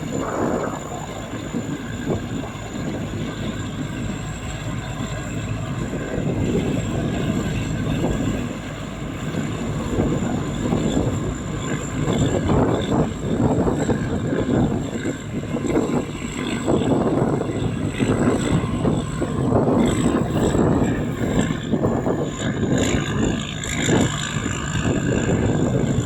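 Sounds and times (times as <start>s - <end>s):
combine harvester engine running: 0.0s - 26.0s
high whine: 0.0s - 26.0s.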